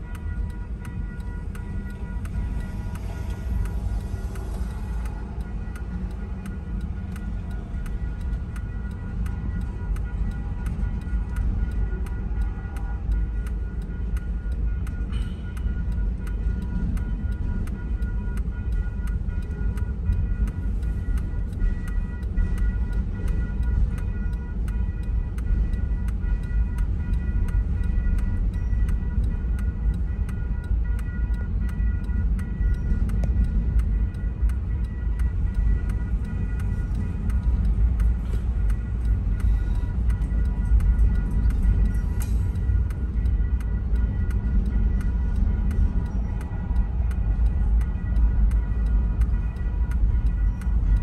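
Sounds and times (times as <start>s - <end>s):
freight train rumbling: 0.0s - 51.0s
steady ticking: 0.0s - 51.0s.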